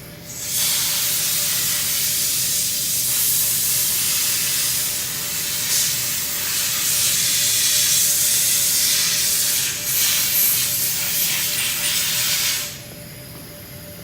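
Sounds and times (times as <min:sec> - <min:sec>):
compressed air hissing from hose: 0:00.3 - 0:12.8.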